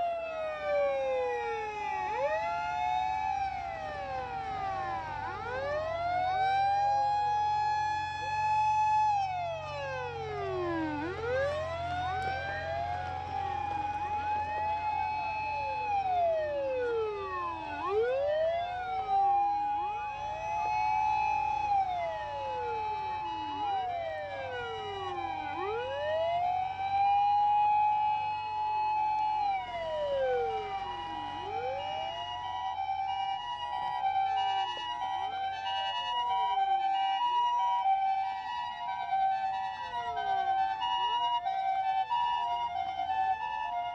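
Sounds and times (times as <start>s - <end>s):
truck engines rumbling: 0.0s - 43.9s
two-tone hi-lo siren: 0.0s - 43.9s
wailing sirens: 0.0s - 43.9s.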